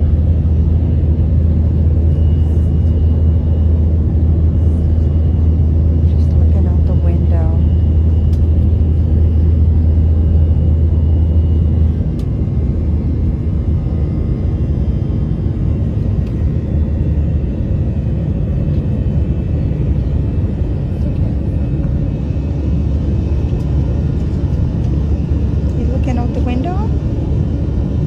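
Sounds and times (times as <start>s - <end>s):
jet engine and airflow rumble: 0.0s - 28.0s.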